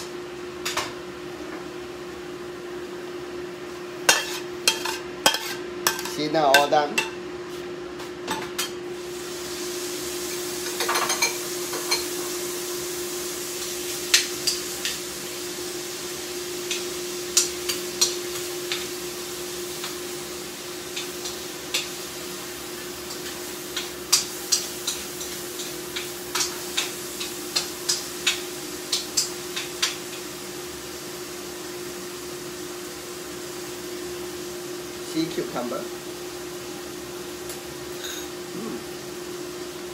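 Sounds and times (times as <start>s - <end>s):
food sizzling in a pan: 0.0s - 7.7s, 8.3s - 39.9s.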